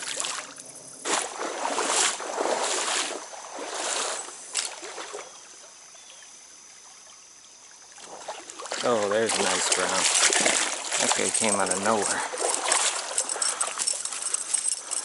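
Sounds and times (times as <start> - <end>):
water swishing and splashing: 0.0 - 5.8, 6.8 - 15.0.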